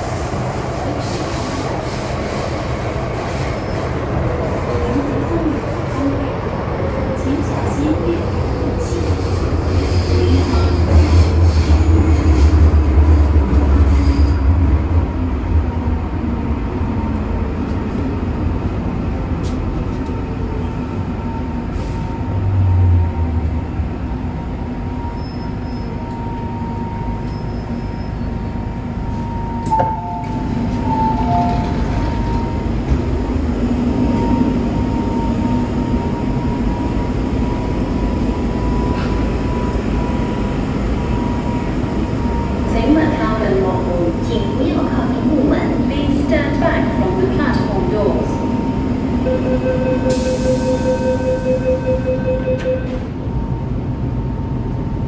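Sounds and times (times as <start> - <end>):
train rumbling in tunnel: 0.0 - 55.0.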